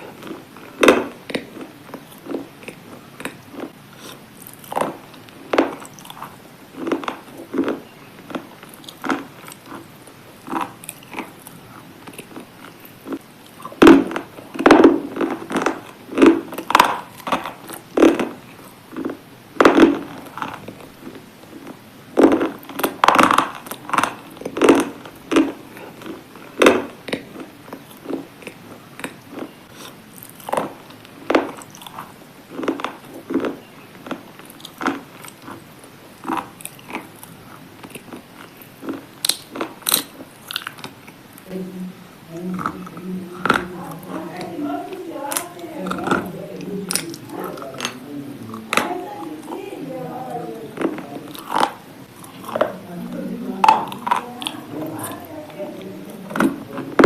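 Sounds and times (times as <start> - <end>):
crunchy biting and chewing: 0.0 - 41.5, 42.1 - 57.0.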